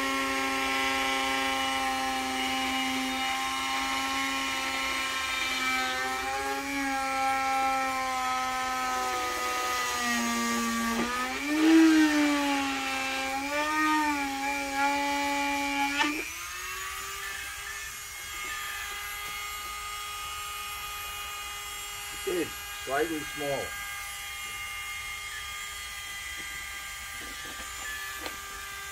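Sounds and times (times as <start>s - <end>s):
rotary tool motor whine: 0.0s - 28.9s.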